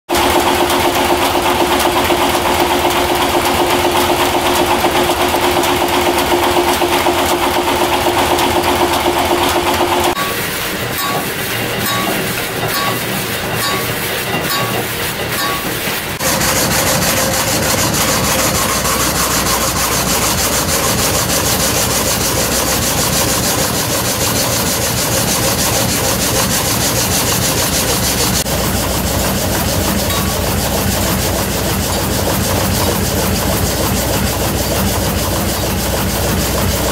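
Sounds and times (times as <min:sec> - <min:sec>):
engine clatter and ticking: 0:00.1 - 0:36.9
saw blades cutting log: 0:00.2 - 0:36.8.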